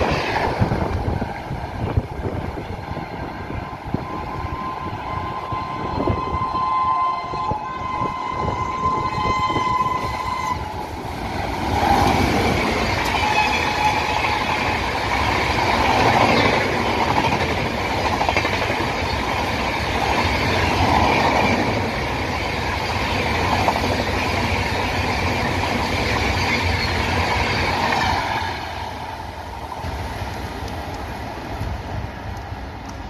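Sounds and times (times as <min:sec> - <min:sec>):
train coaches rushing past: 0:00.0 - 0:33.0.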